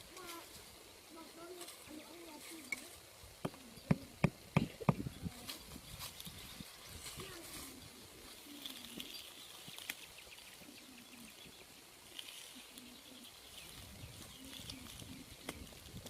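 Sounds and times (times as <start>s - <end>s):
small birds calling: 0.0s - 16.0s.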